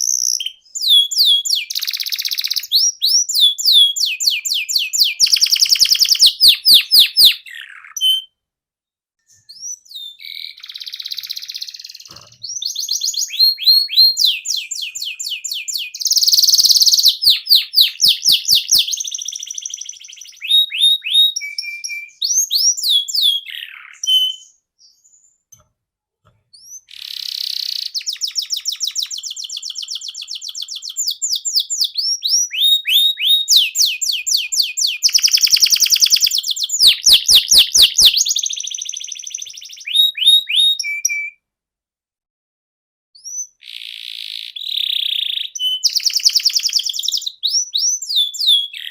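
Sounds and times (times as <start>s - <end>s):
canary singing trills: 0.0s - 8.4s, 9.3s - 25.4s, 26.6s - 41.4s, 43.2s - 48.9s.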